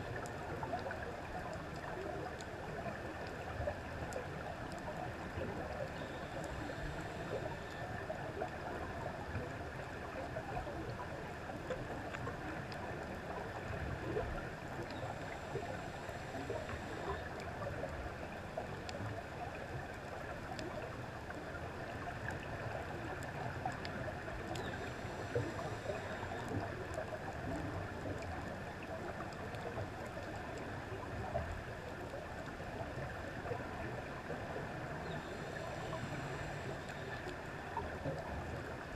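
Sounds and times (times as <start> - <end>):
faint clicks: 0.0 - 38.9
muffled underwater rushing: 0.0 - 38.9.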